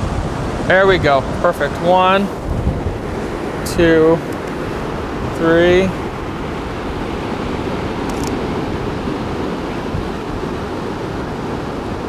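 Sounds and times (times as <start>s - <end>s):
ocean surf on beach: 0.0s - 12.0s
wind noise on microphone: 0.0s - 12.0s.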